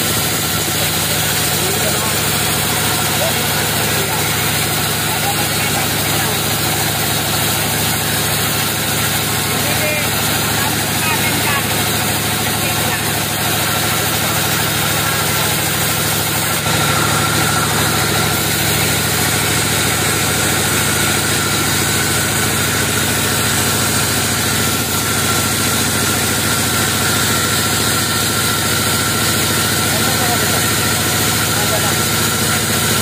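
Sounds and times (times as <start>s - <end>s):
bandsaw cutting log: 0.0s - 33.0s.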